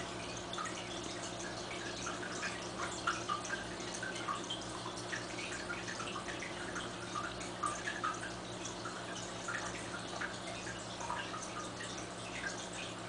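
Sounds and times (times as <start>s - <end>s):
aquarium water bubbling: 0.0s - 13.0s
small drip-like plinks: 0.0s - 13.0s.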